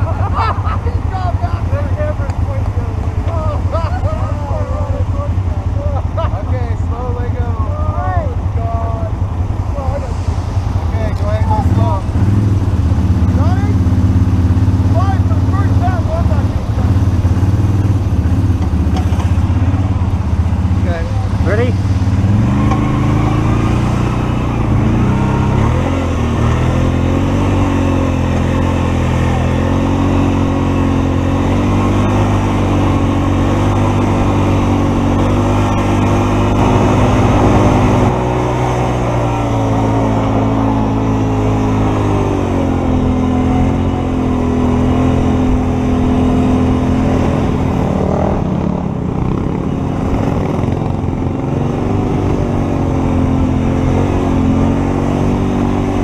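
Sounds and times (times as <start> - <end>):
vehicle engine revving under load: 8.7 - 56.0.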